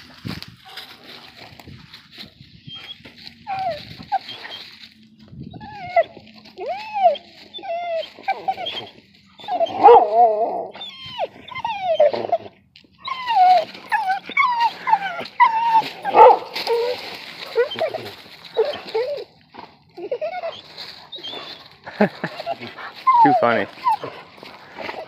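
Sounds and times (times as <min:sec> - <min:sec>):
dog whining and yipping: 0:02.6 - 0:04.8, 0:05.5 - 0:25.0.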